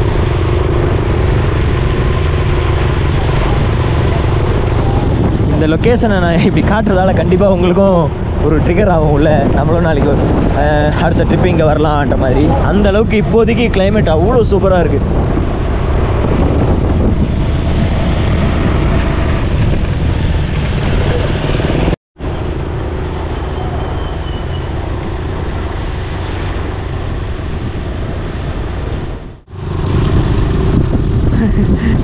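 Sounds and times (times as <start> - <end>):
motorcycle running: 0.0 - 32.0
wind rushing over microphone: 0.0 - 32.0.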